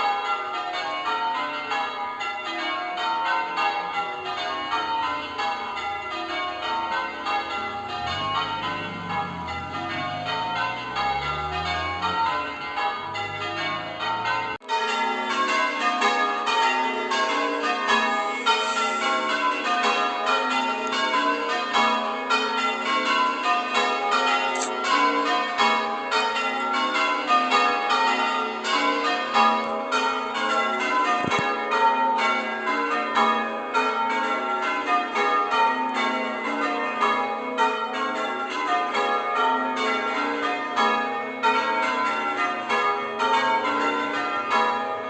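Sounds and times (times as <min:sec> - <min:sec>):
church bells change ringing: 0:00.0 - 0:45.0.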